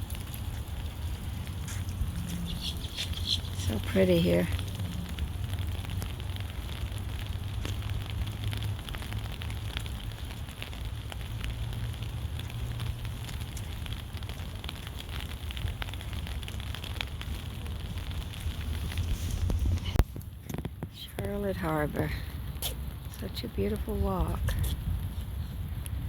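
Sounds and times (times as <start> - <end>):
low rumble: 0.0 - 21.2
rain pattering on umbrella: 0.0 - 26.0.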